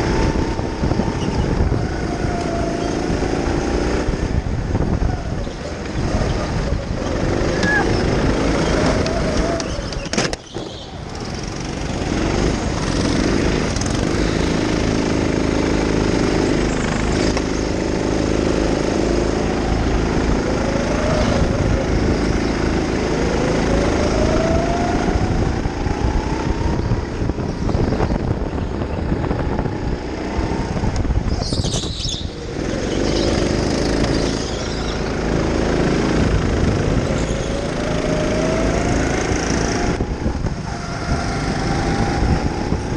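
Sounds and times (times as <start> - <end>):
go-kart motor revving: 0.0 - 42.9.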